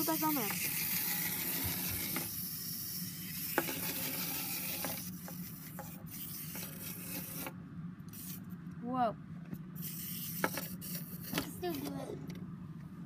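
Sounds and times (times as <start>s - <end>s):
wind-up toy gears whirring: 0.0s - 8.5s, 9.8s - 12.2s.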